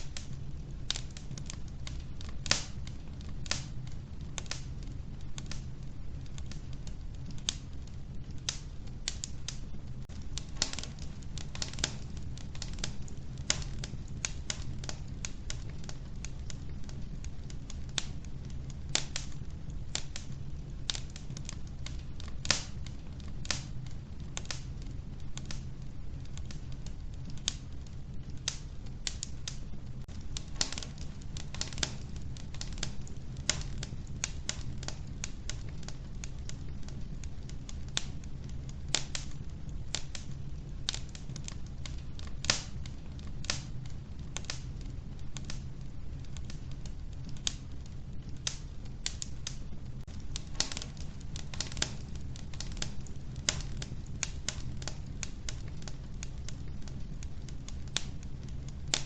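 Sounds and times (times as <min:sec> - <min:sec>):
wood fire crackling in stove: 0:00.0 - 0:59.0.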